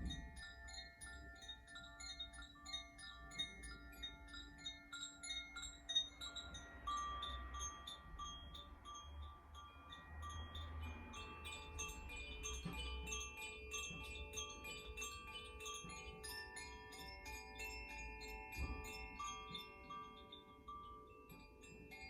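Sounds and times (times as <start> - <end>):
wind chimes tinkling: 0.0 - 22.0.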